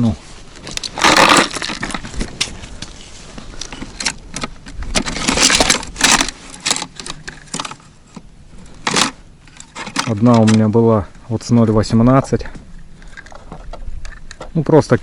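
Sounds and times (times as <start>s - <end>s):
fishing gear rustling and clicking: 0.0s - 11.3s, 12.6s - 15.0s.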